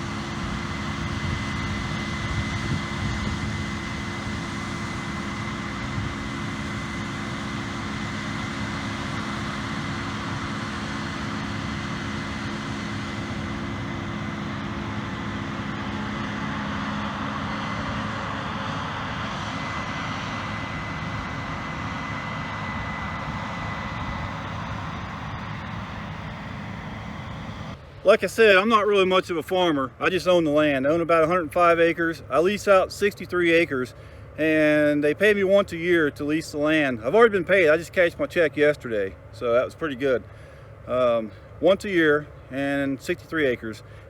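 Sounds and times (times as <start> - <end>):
diesel machinery running: 0.0 - 44.0.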